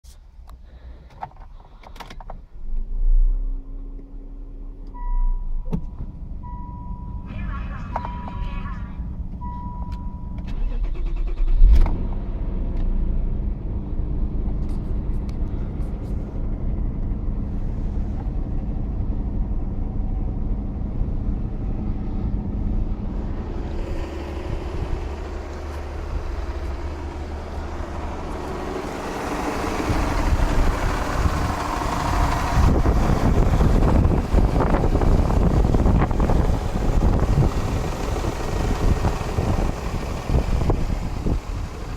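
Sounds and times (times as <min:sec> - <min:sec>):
car engine starting and knocking: 0:00.2 - 0:41.9.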